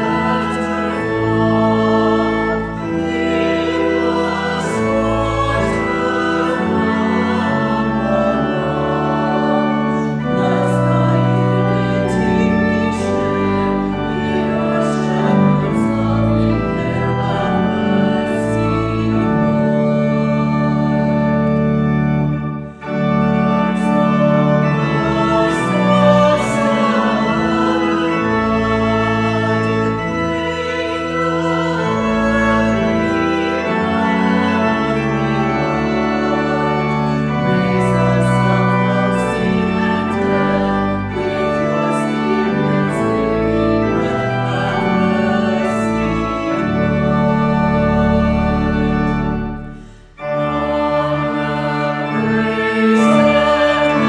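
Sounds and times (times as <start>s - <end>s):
organ playing slow chords: 0.0s - 54.0s.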